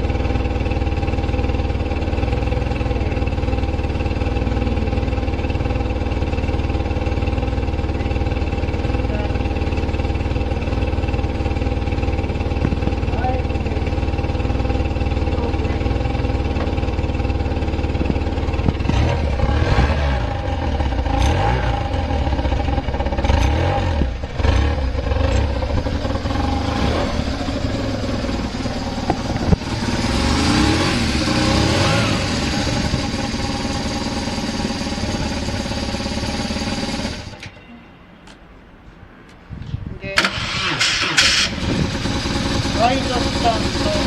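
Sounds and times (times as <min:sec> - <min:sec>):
motorcycle engine idling and revving: 0:00.0 - 0:37.6, 0:40.1 - 0:44.0.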